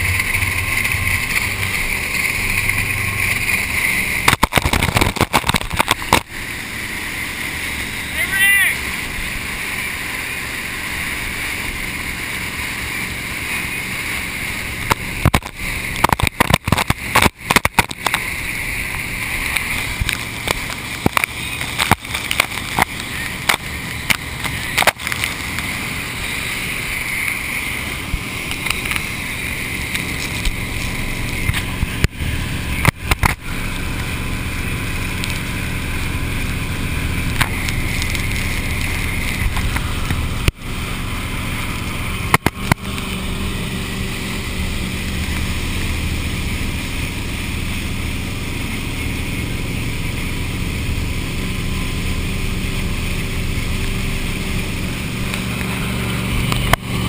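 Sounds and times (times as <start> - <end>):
churning wake water: 0.0 - 57.0.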